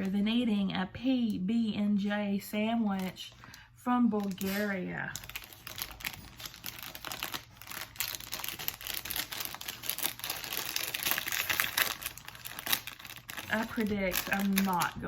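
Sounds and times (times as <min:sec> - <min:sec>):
plastic wrapper crackling: 0:02.9 - 0:15.0.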